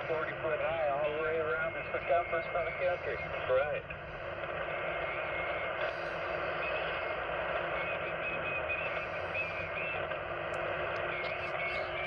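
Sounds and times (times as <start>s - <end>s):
faint wavering radio tones: 0.0s - 12.0s
radio hiss and static: 0.0s - 12.0s.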